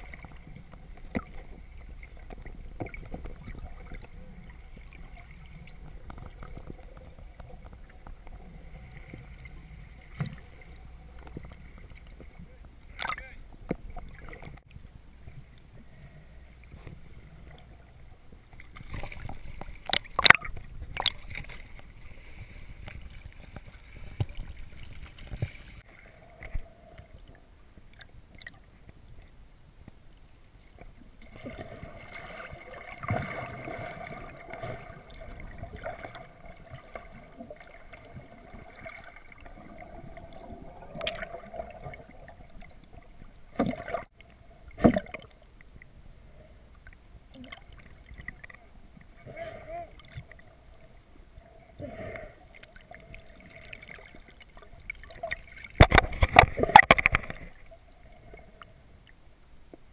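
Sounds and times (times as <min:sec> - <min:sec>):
boat motor hum underwater: 0:00.0 - 0:59.9
muffled underwater wash: 0:00.0 - 0:59.9.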